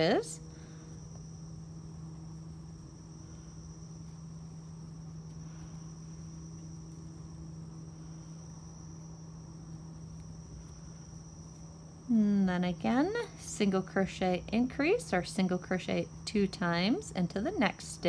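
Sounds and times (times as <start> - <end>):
high-pitched whine: 0.0 - 18.0
low hum: 0.0 - 18.0.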